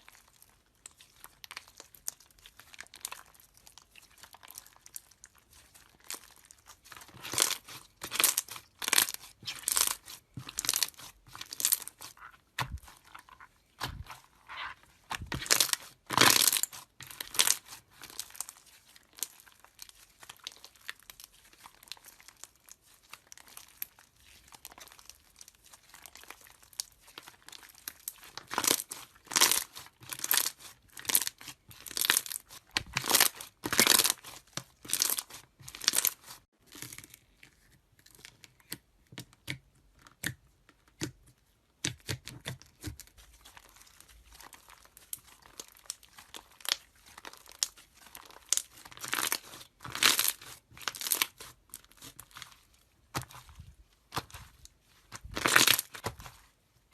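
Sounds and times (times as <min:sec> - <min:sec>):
slime squelching and popping: 0:00.0 - 0:56.9.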